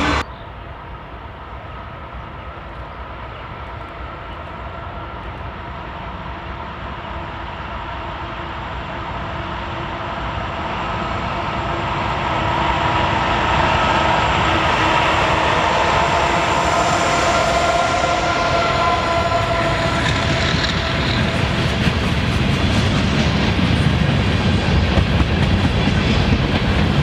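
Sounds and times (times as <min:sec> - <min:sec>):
diesel train running past: 0:00.0 - 0:27.0.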